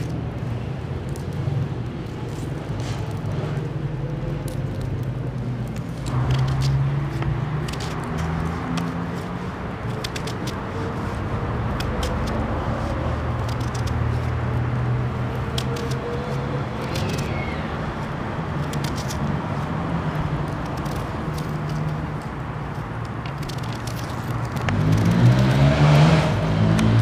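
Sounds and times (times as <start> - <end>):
knife peeling a potato: 0.0 - 25.7.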